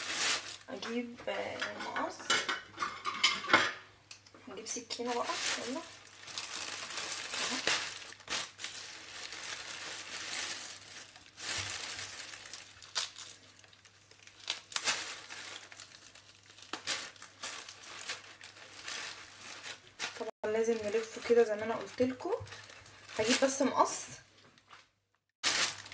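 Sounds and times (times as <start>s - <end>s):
plastic crinkling and tearing: 0.0s - 1.0s, 4.9s - 24.0s, 24.6s - 25.9s.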